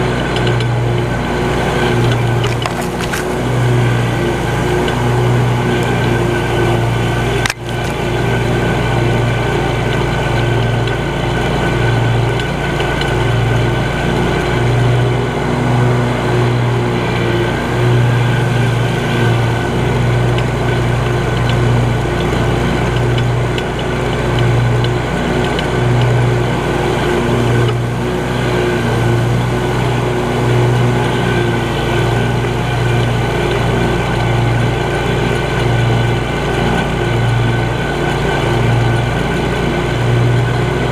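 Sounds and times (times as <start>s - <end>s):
mower engine running: 0.0s - 40.9s.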